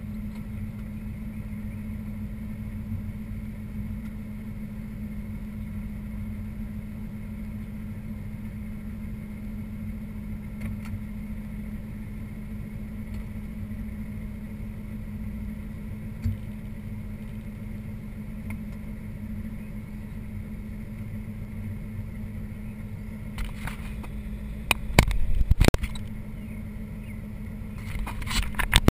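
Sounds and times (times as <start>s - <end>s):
car engine idling: 0.0s - 28.8s.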